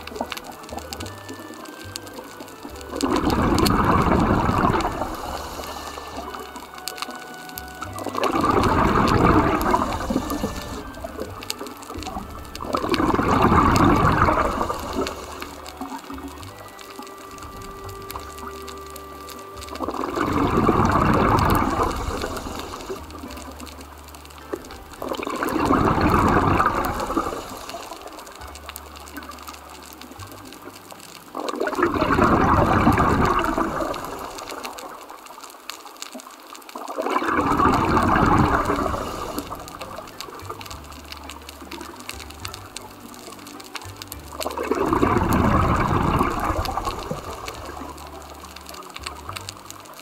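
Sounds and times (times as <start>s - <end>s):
underwater breath bubbles: 0.0s - 28.6s, 31.3s - 35.1s, 36.8s - 40.8s, 42.8s - 49.2s.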